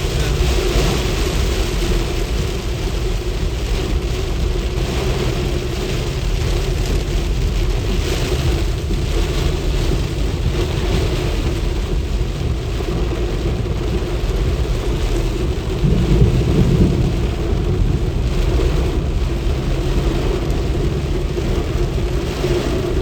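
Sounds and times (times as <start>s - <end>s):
heavy rainstorm: 0.0s - 23.0s.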